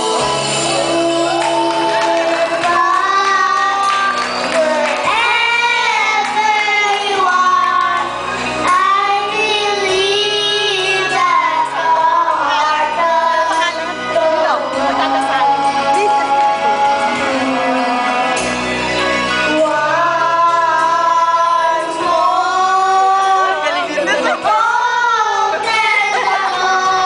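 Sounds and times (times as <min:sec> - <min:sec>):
backing music: 0:00.0 - 0:27.0
children singing a duet: 0:00.0 - 0:27.0.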